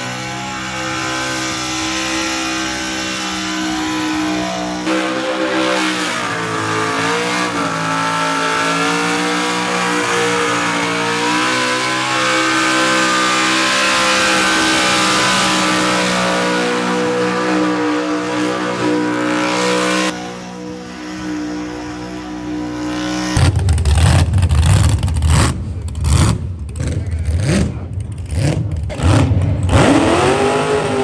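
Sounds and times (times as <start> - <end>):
car engine at high revs: 0.0 - 31.0.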